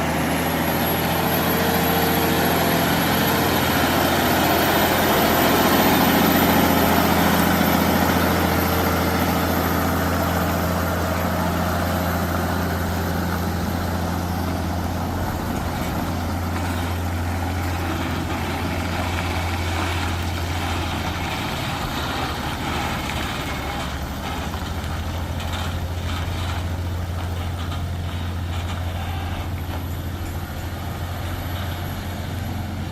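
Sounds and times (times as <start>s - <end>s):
truck engine droning: 0.0s - 32.9s.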